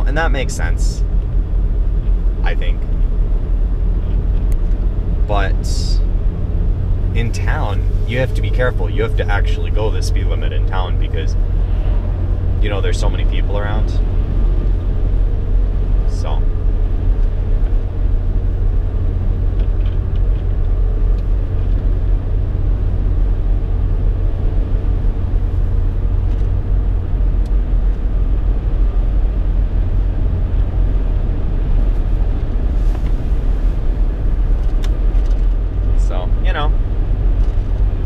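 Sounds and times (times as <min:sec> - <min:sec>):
road and engine rumble in car: 0:00.0 - 0:38.0.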